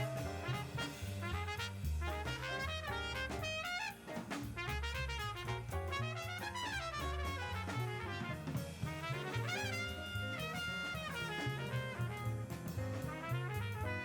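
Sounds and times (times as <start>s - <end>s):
brass horns: 0.0s - 14.0s
drum kit beat: 0.0s - 14.0s.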